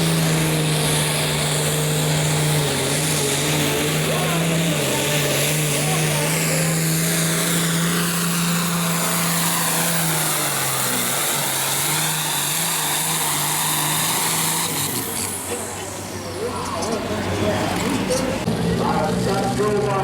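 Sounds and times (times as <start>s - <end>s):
diesel tractor engine under load: 0.0s - 20.0s
high turbo whine: 0.0s - 20.0s.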